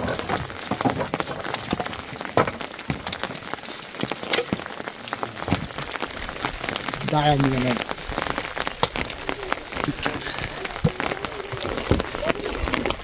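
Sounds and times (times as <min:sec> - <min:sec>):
hail and rain on hard surface: 0:00.0 - 0:13.0.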